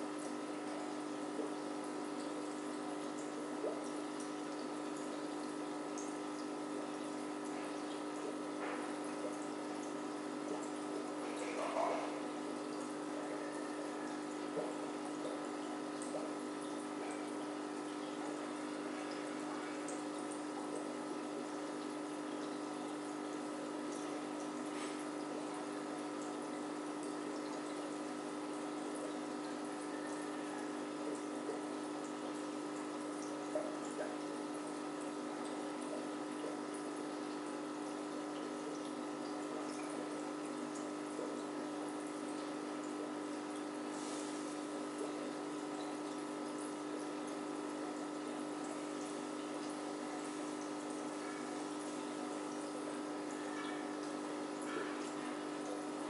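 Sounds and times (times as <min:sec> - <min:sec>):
pump hum: 0:00.0 - 0:56.0
trickling bubbling water: 0:00.0 - 0:56.0.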